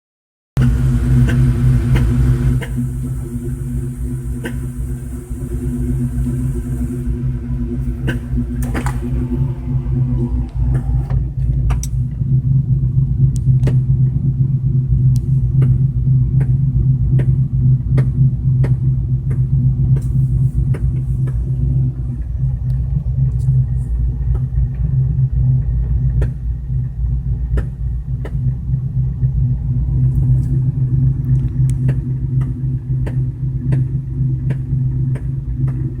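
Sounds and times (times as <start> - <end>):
car engine running: 0.6 - 36.0
regular engine knock: 0.6 - 36.0.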